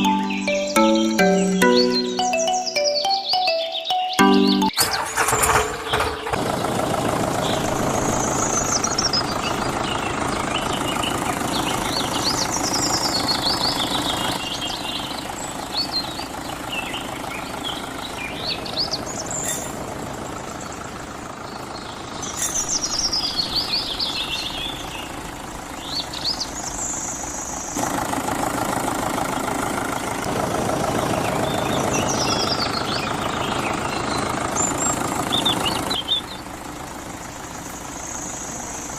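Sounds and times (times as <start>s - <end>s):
small engine running: 4.8s - 38.9s.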